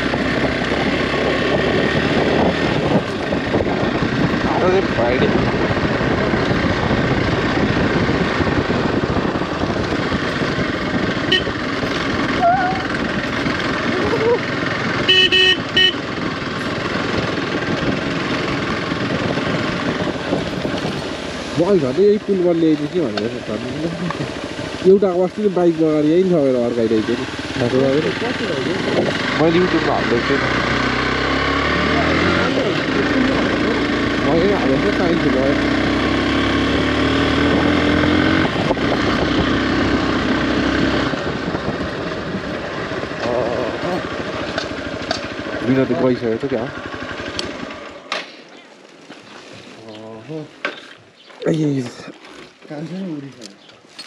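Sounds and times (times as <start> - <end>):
wind buffeting microphone: 0.0 - 15.1, 15.7 - 24.8, 27.2 - 47.7
motorcycle engine running: 0.0 - 48.2.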